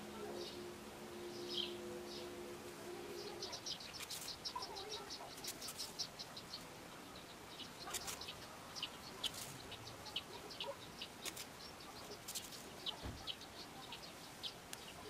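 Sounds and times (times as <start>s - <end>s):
faint small birds chirping: 0.0s - 15.0s.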